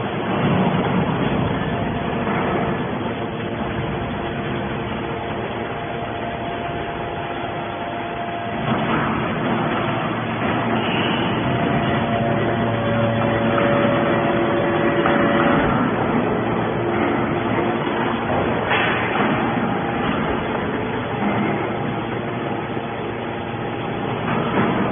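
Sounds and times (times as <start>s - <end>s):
hydraulic baler machine noise: 0.0s - 24.9s
held whining tones: 1.2s - 24.4s.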